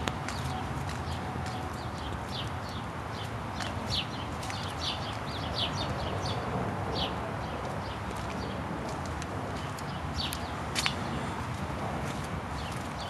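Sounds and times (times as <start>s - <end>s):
small birds chirping: 0.3s - 8.6s, 9.2s - 11.2s, 12.5s - 13.0s.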